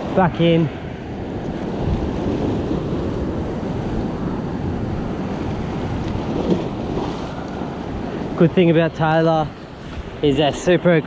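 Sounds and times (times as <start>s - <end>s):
wind noise on microphone: 0.0s - 10.8s
sea surf washing on rocks: 0.0s - 11.0s.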